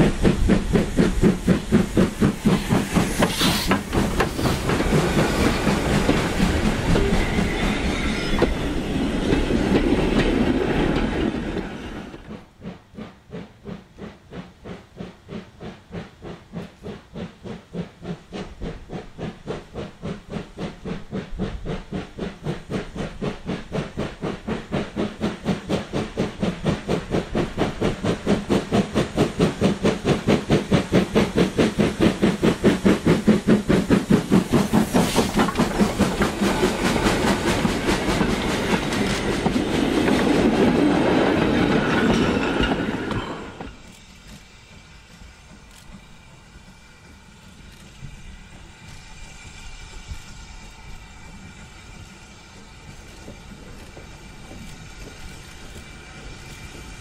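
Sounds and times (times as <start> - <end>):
steam locomotive chuffing: 0.0 - 57.0
train rumbling and clattering: 0.0 - 57.0.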